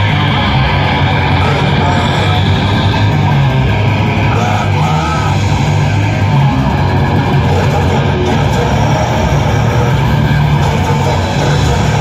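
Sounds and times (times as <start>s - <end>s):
live metal band playing: 0.0s - 12.0s.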